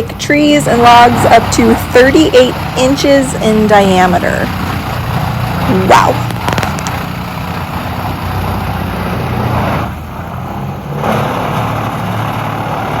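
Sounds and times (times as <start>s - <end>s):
wood chipper engine humming: 0.0s - 13.0s.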